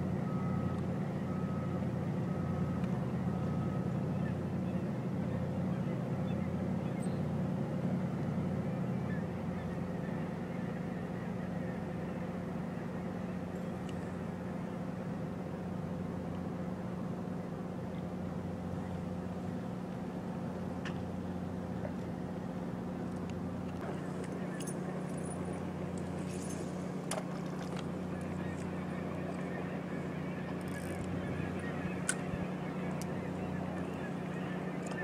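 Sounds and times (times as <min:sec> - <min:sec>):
engine droning: 0:00.0 - 0:35.0.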